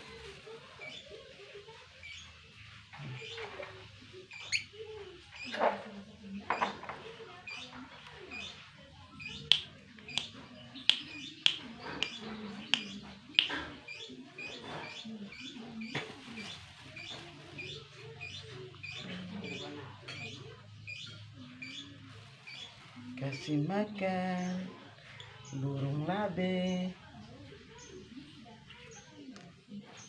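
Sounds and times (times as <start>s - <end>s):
caged birds chirping: 0.0s - 30.0s.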